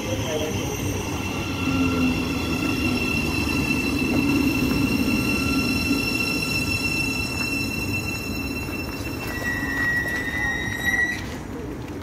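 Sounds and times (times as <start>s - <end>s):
electric train braking whine: 0.0s - 11.4s.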